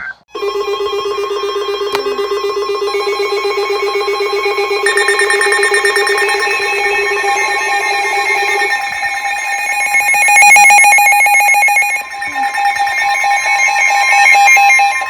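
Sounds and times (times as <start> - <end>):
electronic alert tones: 0.0 - 15.0
fast-pulsing buzzy tone: 2.3 - 15.0.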